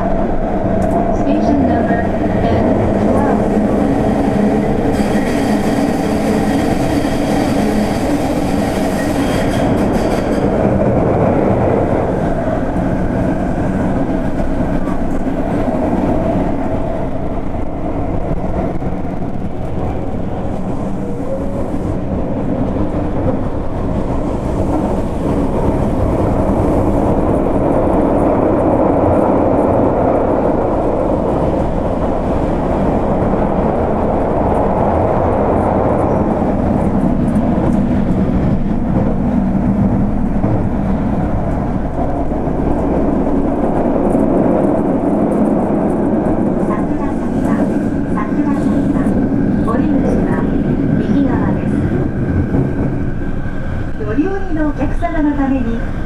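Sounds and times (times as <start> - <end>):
train rumbling through tunnel: 0.0 - 56.0.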